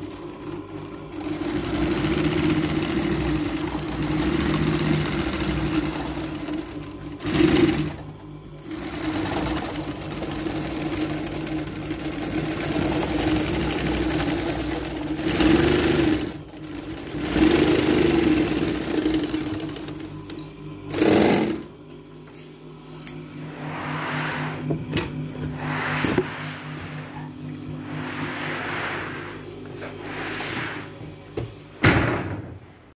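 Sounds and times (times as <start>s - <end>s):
carpet binding machine hum: 0.0s - 32.9s.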